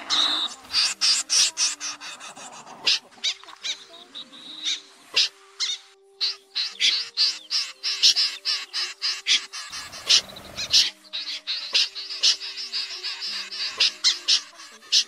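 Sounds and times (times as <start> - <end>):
background music low notes: 0.0 - 15.0
snipe calls: 0.0 - 15.0.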